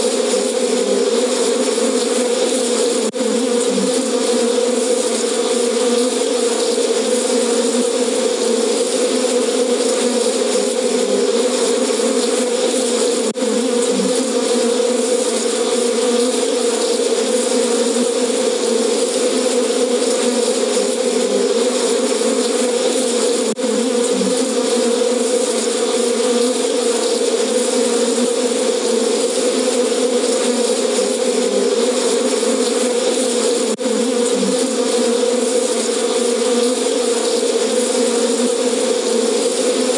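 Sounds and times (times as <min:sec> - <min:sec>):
angry bees buzzing: 0:00.0 - 0:39.9.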